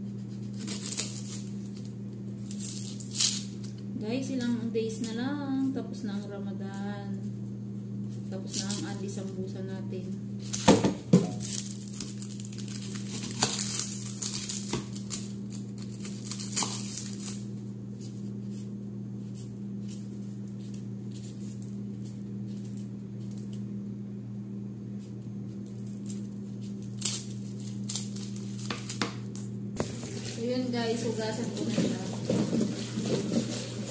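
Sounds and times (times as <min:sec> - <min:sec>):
onion skins crinkling: 0:00.1 - 0:04.6, 0:08.0 - 0:09.4, 0:10.4 - 0:23.7, 0:25.0 - 0:33.9.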